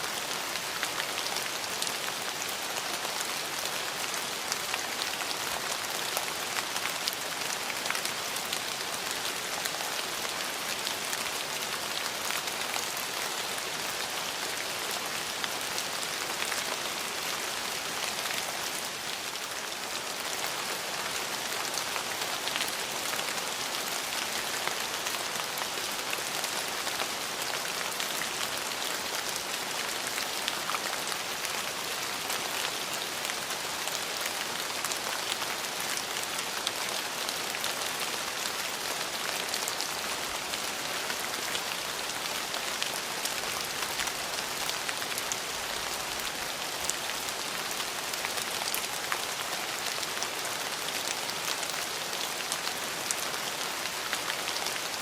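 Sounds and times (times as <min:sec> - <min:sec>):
rain pattering on hard surface: 0:00.0 - 0:55.0.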